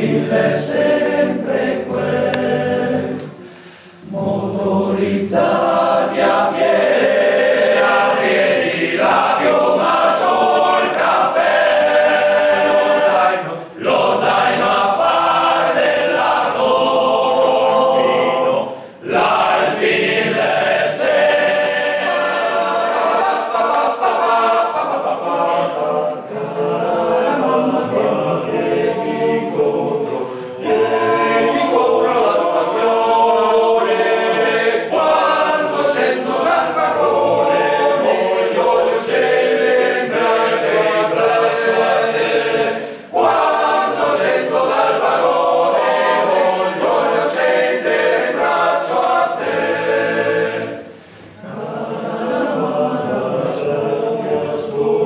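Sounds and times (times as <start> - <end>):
men's choir singing a cappella: 0.0 - 55.0.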